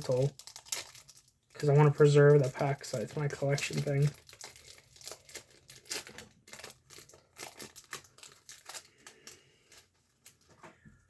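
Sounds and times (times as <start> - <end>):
card pack wrapper crinkling: 0.0 - 10.5.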